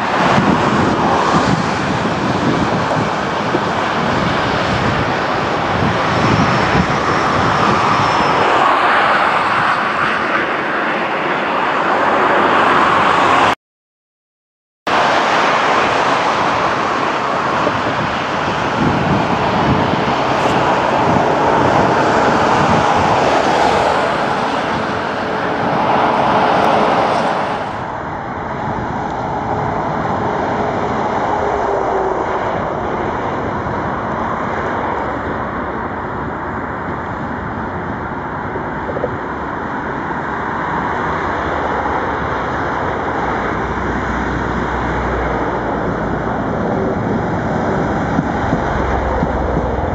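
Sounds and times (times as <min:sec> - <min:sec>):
diesel locomotive rumbling: 0:00.0 - 0:13.4, 0:14.9 - 0:49.9.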